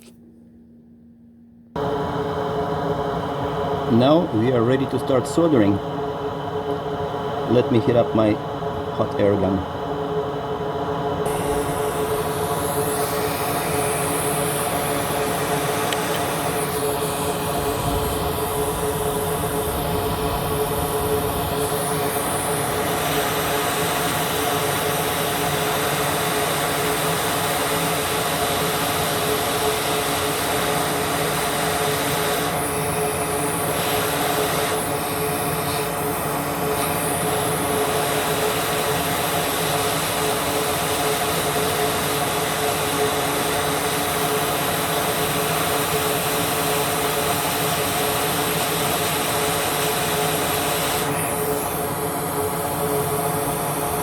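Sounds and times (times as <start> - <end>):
steady hum: 0.0 - 54.0
hot air station blowing hiss: 1.8 - 54.0.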